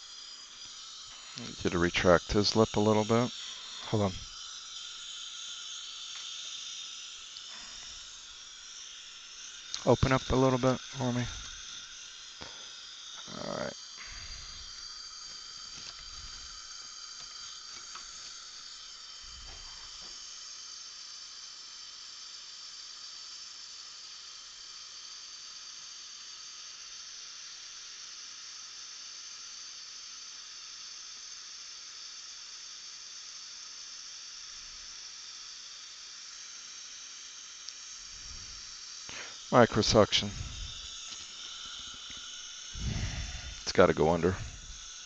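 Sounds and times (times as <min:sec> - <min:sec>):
dental suction hissing: 0:00.0 - 0:45.0
faint high whine: 0:00.0 - 0:45.0.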